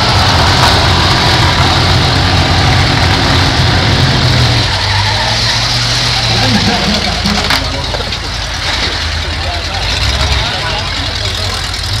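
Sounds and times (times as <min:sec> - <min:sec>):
car engines rumbling: 0:00.0 - 0:12.0
rough exhaust noise: 0:00.0 - 0:12.0.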